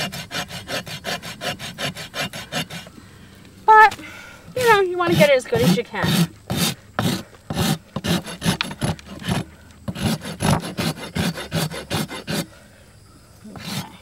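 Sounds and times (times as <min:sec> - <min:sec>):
rasp scraping hoof: 0:00.0 - 0:03.0, 0:03.7 - 0:12.6, 0:13.5 - 0:14.0.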